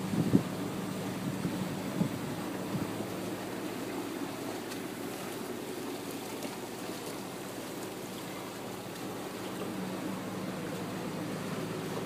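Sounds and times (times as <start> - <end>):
boat motor humming: 0.0 - 12.0
water rushing along hull: 0.0 - 12.0.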